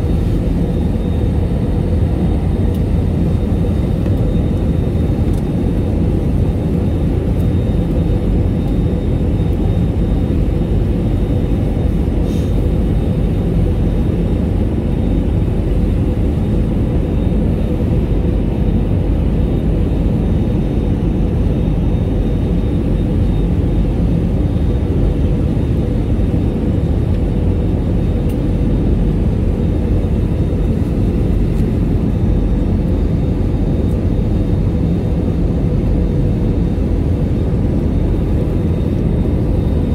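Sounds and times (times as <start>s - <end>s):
airliner cabin rumble: 0.0s - 39.9s
faint steady whine: 0.0s - 39.9s.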